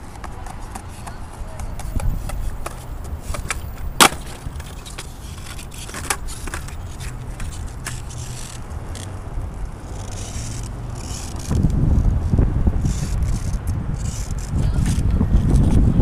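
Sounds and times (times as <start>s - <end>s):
skateboard clacking on pavement: 0.0s - 11.7s, 12.9s - 15.9s
skateboard wheels rolling on concrete: 0.0s - 16.0s.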